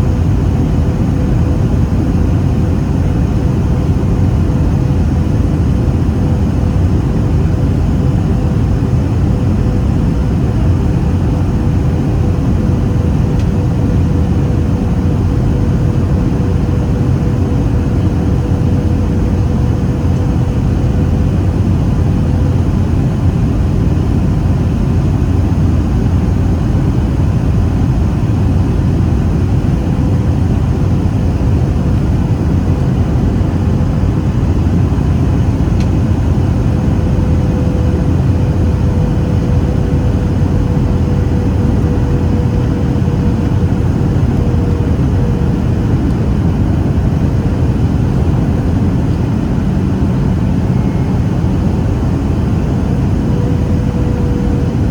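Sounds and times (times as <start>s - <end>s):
airplane engines and airflow rushing: 0.0s - 54.9s
steady low hum: 0.0s - 54.9s.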